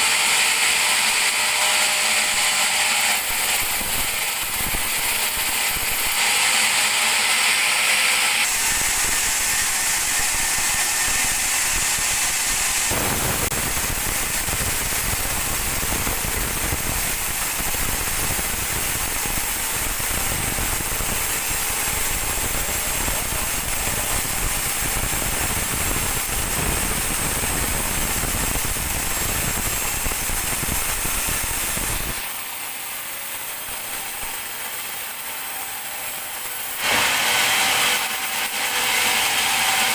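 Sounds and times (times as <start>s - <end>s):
band saw cutting a log: 0.0s - 39.9s.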